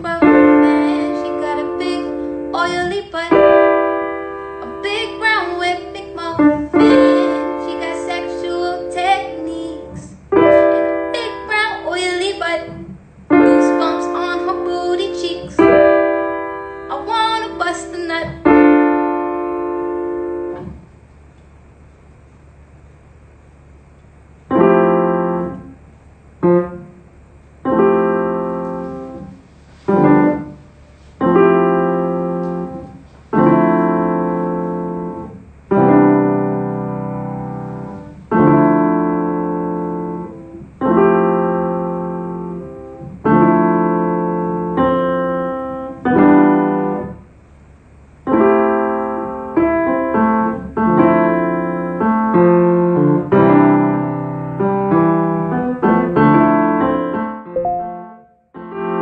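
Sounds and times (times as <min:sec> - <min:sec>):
piano chords ringing: 0:00.0 - 0:59.0.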